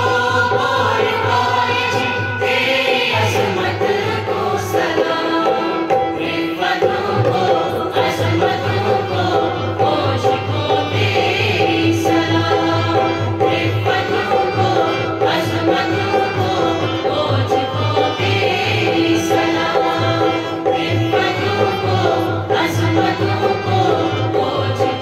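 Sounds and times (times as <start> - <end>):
group singing an anthem: 0.0 - 25.0
instrumental accompaniment: 0.0 - 25.0.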